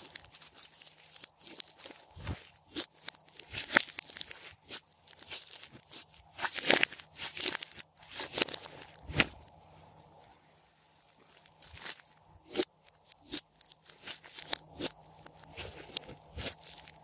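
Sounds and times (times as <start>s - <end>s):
slime crackling and popping: 0.0s - 9.6s, 11.0s - 17.0s.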